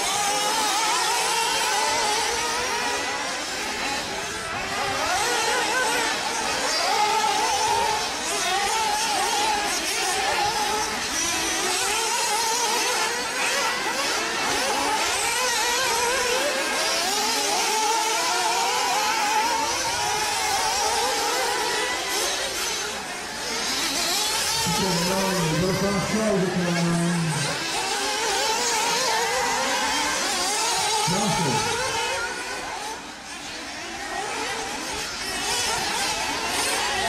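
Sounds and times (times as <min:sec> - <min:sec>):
radio-controlled car engines revving: 0:00.0 - 0:37.0.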